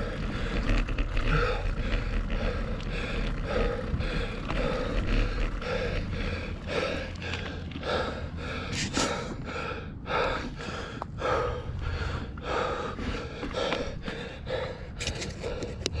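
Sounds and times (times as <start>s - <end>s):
person panting: 0.0s - 16.0s.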